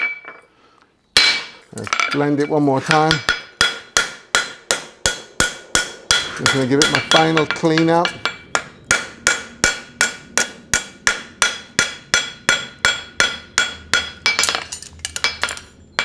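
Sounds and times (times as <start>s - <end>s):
hammer striking metal on anvil: 1.2s - 1.6s, 2.4s - 16.0s.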